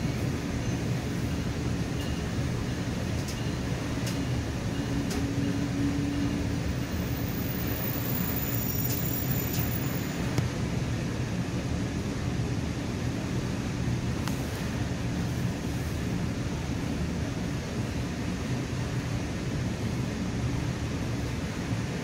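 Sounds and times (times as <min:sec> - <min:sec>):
train coach rumble: 0:00.0 - 0:22.0.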